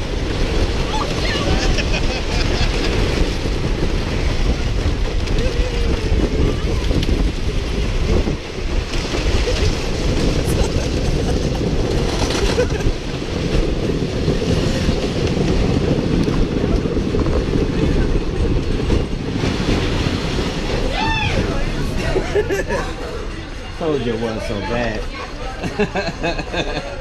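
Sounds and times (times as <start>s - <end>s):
roller coaster rumble and clatter: 0.0s - 27.0s.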